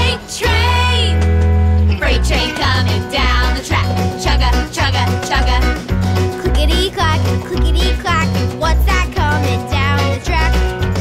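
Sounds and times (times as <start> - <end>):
children's cartoon music: 0.0 - 11.0.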